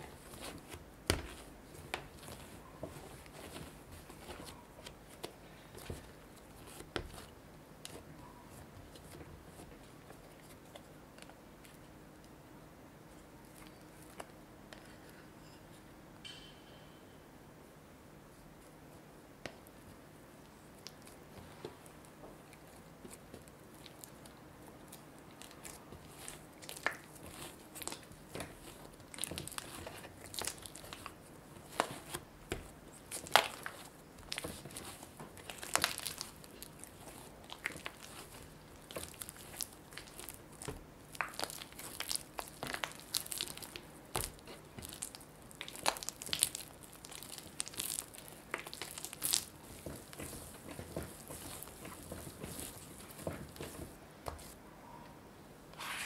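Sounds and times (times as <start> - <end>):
dough squelching and tearing: 0.0 - 12.3, 20.5 - 54.6.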